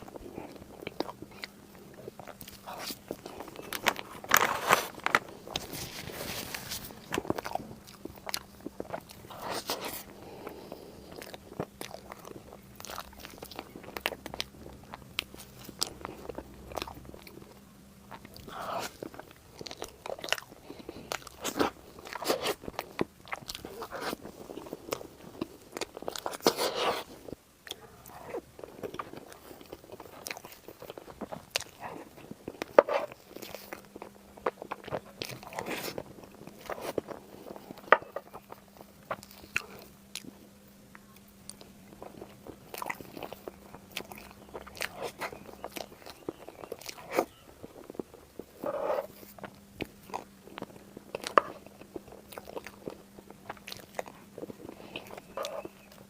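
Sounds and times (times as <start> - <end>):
crunchy chewing and biting: 0.0 - 56.0.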